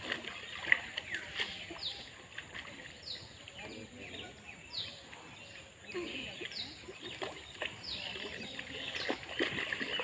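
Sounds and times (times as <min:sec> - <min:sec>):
faint voices: 0:00.0 - 0:10.0.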